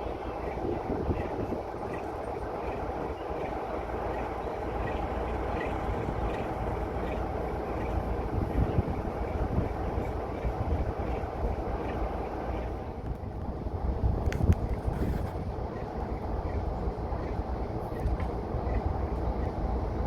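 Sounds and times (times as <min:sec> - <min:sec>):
diesel train rumbling: 0:00.0 - 0:20.0
wind on microphone: 0:00.0 - 0:20.0.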